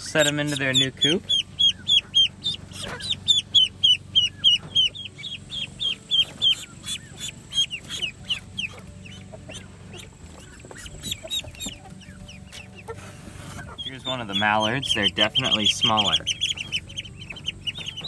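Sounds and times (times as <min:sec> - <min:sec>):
duckling peeping: 0:00.0 - 0:18.0.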